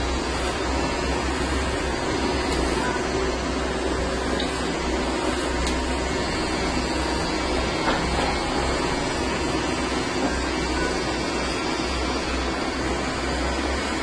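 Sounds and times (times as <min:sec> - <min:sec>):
electric hair clippers buzzing: 0:00.0 - 0:14.0.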